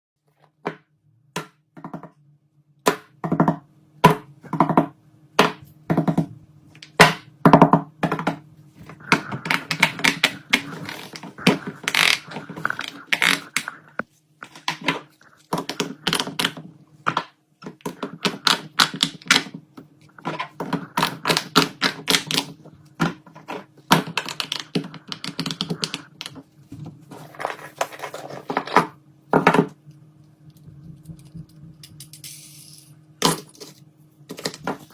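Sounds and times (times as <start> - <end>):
faint low hum: 4.3 - 34.9.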